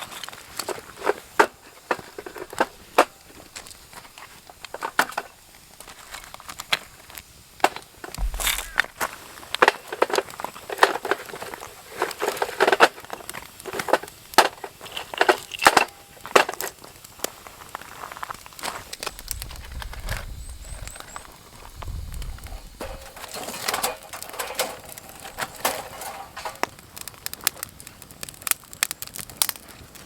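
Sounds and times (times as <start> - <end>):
firewood crackling and snapping: 0.0 - 30.0.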